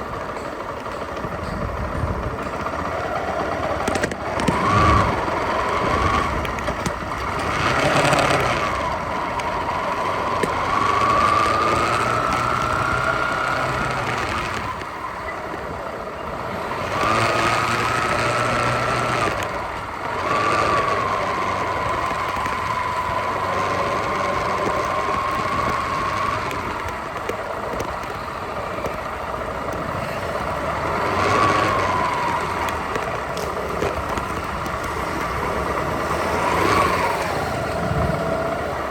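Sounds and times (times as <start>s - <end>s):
motorcycle riding: 0.0s - 38.9s
thin whine: 0.0s - 38.9s.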